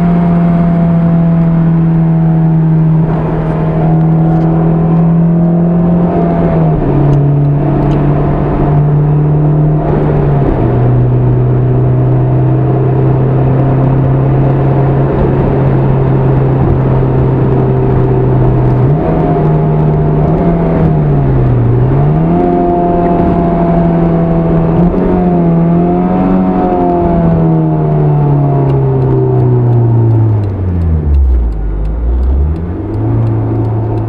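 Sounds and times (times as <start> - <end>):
car engine cruising: 0.0 - 34.0.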